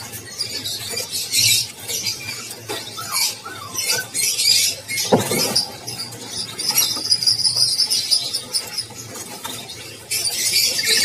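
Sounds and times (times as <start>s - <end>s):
small birds chirping and squeaking: 0.0s - 11.0s.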